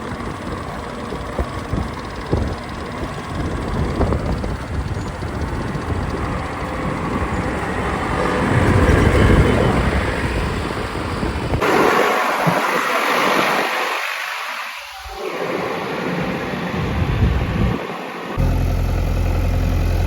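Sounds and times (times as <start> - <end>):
diesel engine rumbling: 0.0 - 11.9, 15.0 - 20.0
wind on microphone: 0.0 - 14.2, 15.0 - 17.9.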